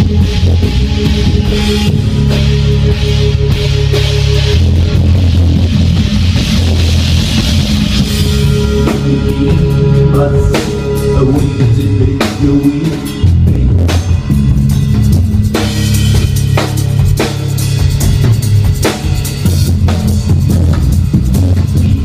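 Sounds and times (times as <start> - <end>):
cymbals washing: 0.0 - 22.0
low bass guitar notes: 0.0 - 22.0.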